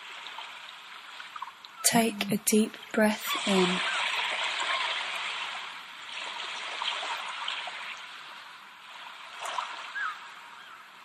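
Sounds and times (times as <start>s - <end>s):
flowing water: 0.0s - 11.0s.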